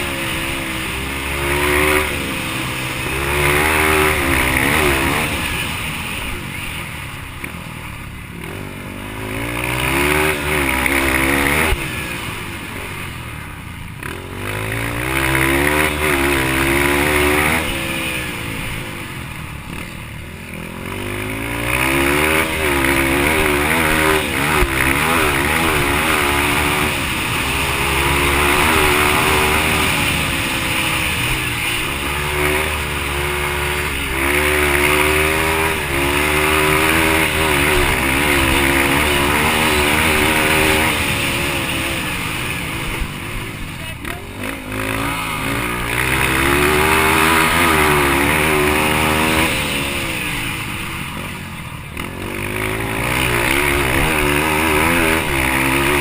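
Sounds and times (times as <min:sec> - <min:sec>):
dirt bike engine racing: 0:00.0 - 0:56.0.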